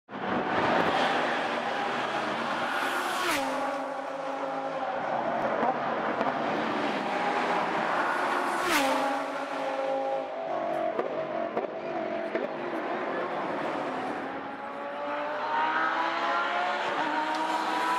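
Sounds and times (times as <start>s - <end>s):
race car engines passing at speed: 0.1s - 17.9s.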